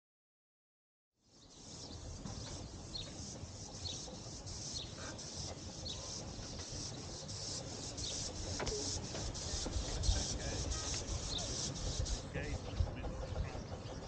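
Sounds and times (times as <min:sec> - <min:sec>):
birds chirping faintly: 0:01.2 - 0:14.0
steam locomotive exhaust chuffing: 0:01.4 - 0:14.0.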